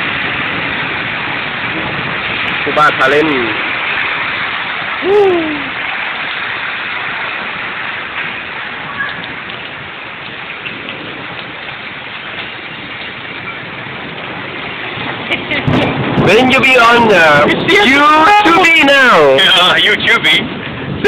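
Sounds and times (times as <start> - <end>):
hard rain pouring: 0.0 - 21.0.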